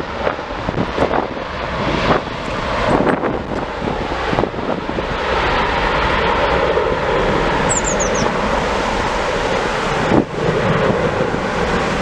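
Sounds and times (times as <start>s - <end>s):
jet engine rushing: 0.0s - 12.0s.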